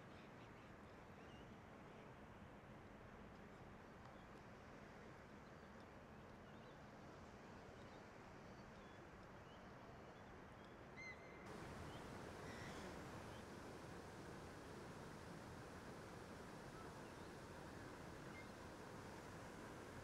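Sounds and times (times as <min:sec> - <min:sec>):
faint outdoor ambience: 0:00.0 - 0:20.0.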